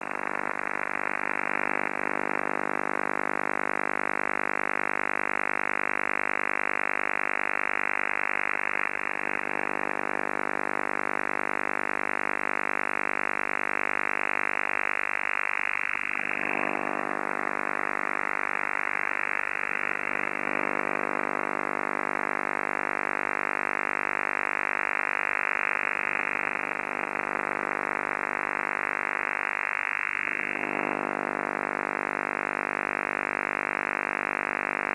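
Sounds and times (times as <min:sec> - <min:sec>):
harsh radio buzz: 0:00.0 - 0:34.9.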